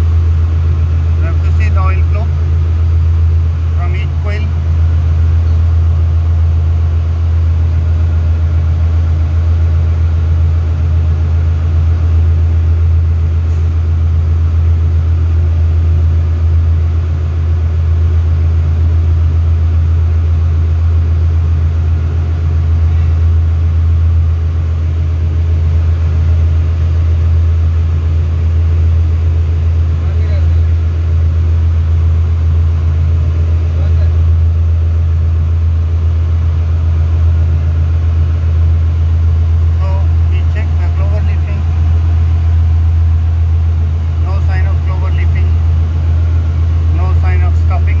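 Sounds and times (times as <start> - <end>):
engine room machinery drone: 0.0 - 48.0.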